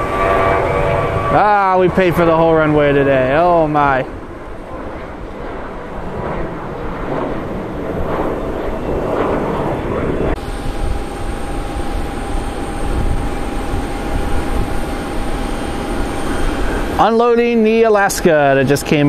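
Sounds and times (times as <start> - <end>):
jet engines roaring: 0.0 - 19.0
thin steady whine: 0.0 - 19.0.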